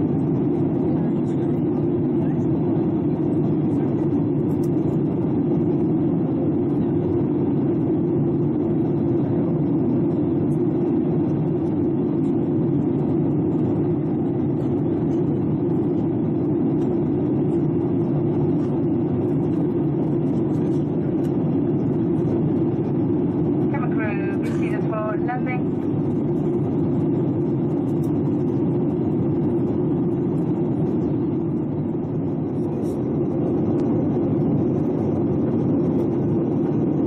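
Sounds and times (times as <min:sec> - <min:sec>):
jet engine cabin noise: 0:00.0 - 0:37.0.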